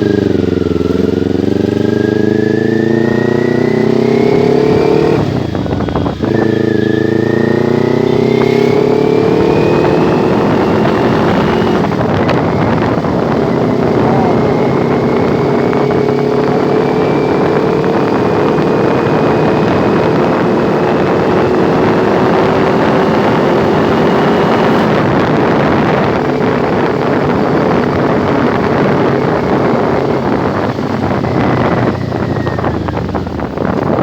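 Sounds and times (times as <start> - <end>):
motorcycle engine running: 0.0 - 34.0
wind noise on microphone: 0.0 - 34.0.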